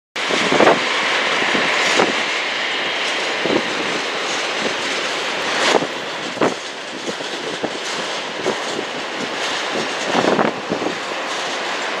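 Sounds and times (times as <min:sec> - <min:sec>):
jet engines roaring: 0:00.2 - 0:12.0.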